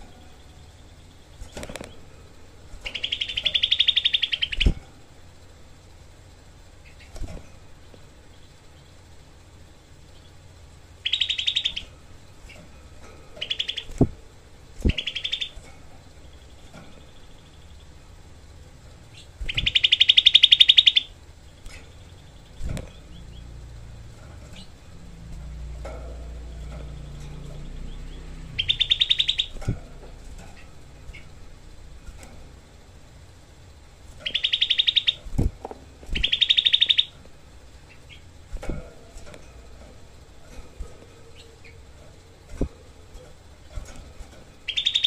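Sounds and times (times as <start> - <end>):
bird rattling trill: 0.0 - 45.0.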